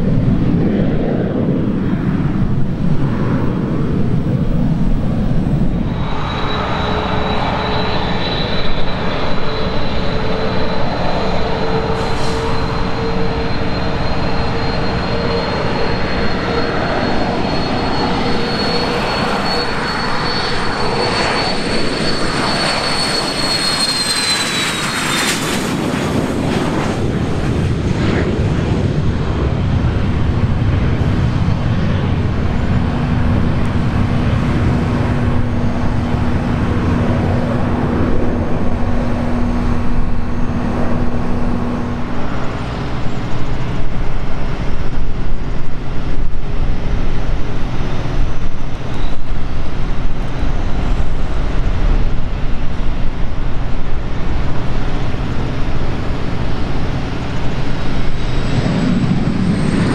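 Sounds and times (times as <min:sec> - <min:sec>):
held engine hum: 0:00.0 - 0:59.9
jet engines rumbling: 0:00.0 - 0:59.9.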